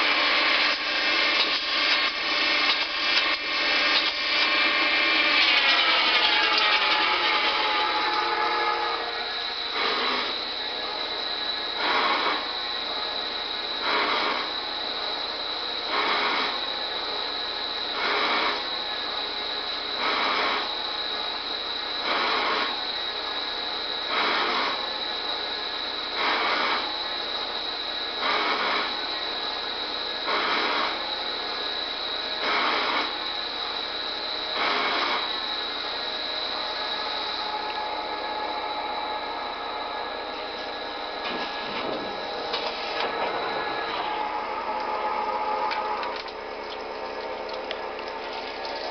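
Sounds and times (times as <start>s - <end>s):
machining noise bursts: 0.0s - 47.5s
lathe high whine: 0.0s - 48.9s.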